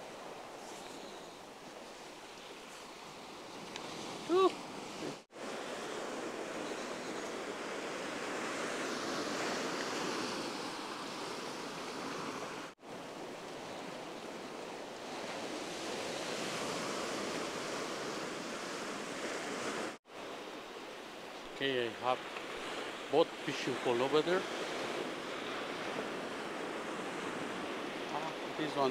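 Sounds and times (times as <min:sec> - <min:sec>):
waves breaking on rocky shore: 0:02.9 - 0:20.6, 0:21.2 - 0:28.9.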